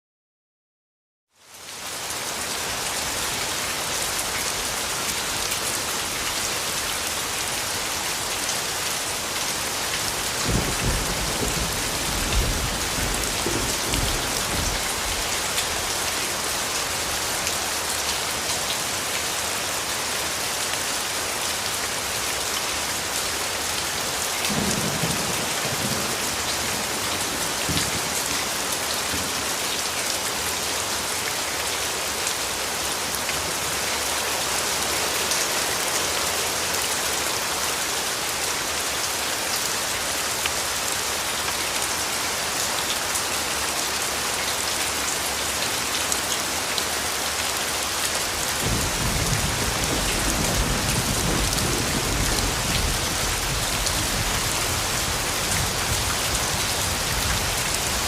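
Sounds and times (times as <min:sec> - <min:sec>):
dense rain hiss: 0:01.4 - 0:58.0.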